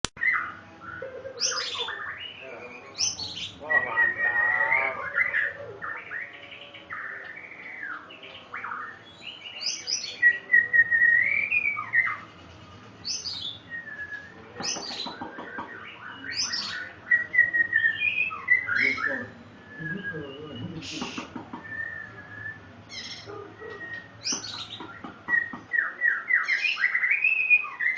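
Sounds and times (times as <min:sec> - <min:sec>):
bird singing varied song: 0:00.2 - 0:27.9.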